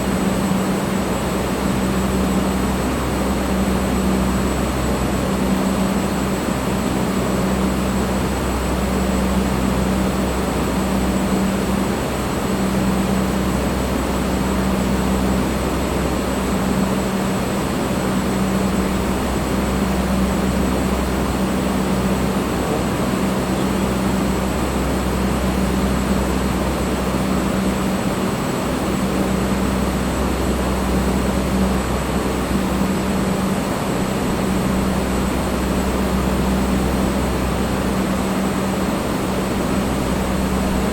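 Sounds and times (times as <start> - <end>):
electric fan air whoosh: 0.0 - 40.9
low motor hum: 1.1 - 40.9.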